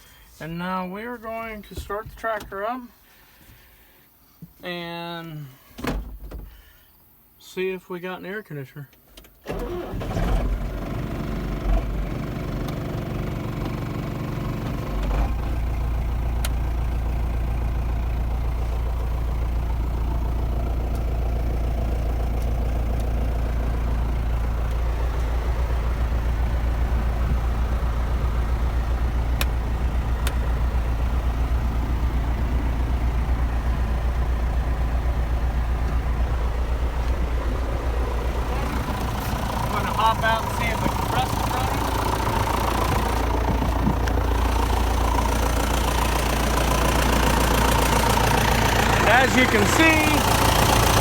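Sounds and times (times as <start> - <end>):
tractor diesel engine idling: 9.4 - 51.0.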